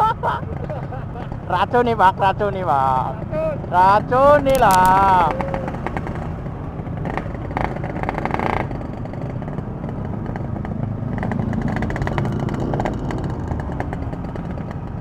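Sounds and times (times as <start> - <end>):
two-stroke motorcycle engine running: 0.4 - 15.0.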